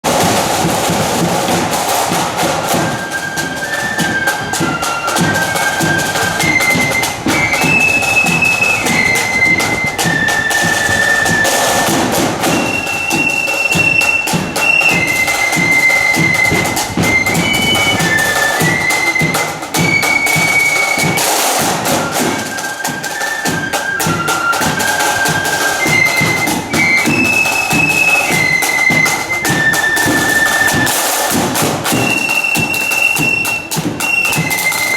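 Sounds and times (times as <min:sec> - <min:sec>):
snare and bass drums: 0:00.0 - 0:34.9
flutes playing high melody: 0:02.2 - 0:34.9.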